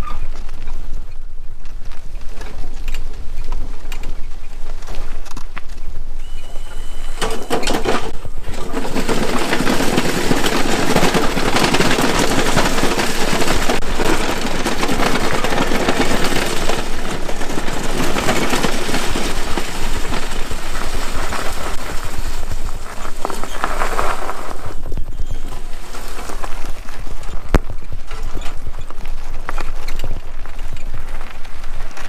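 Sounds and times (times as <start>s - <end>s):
snow plow scraping over ground: 0.0s - 32.0s.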